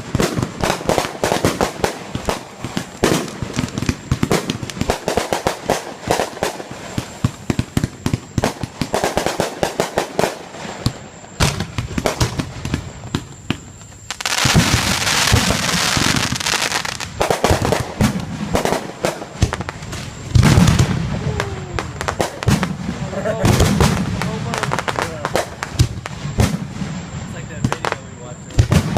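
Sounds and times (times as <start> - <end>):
fireworks bangs and pops: 0.0 - 28.9
fireworks hissing crackle: 0.0 - 28.9.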